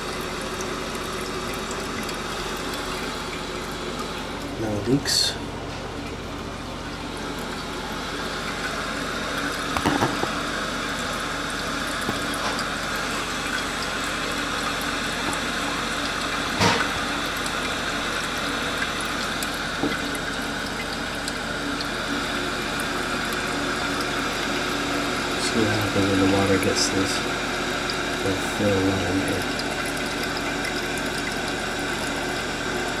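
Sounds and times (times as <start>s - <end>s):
water running into toilet tank: 0.0s - 33.0s.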